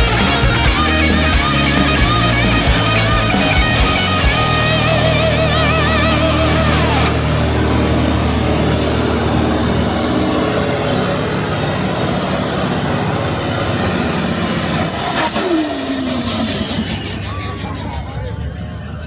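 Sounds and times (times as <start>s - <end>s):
gas turbine engine whining: 0.0s - 19.0s.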